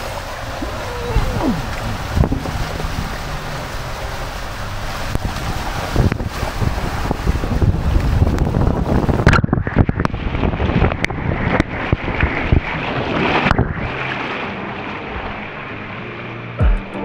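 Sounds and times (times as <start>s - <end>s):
wind buffeting microphone: 0.0s - 16.0s
rushing water: 0.0s - 17.0s.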